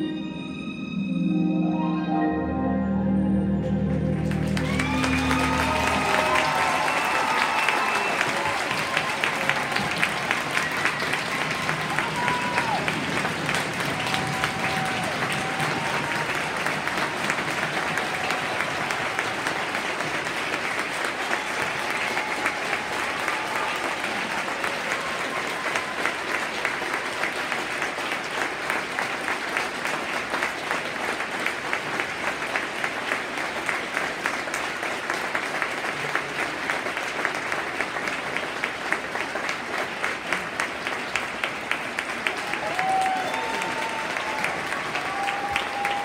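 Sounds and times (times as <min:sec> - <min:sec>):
audience applauding: 0:03.7 - 0:46.0.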